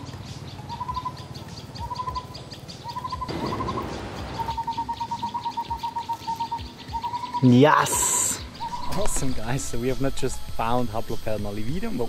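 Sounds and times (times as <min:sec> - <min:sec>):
bird whistling call: 0:00.5 - 0:10.6.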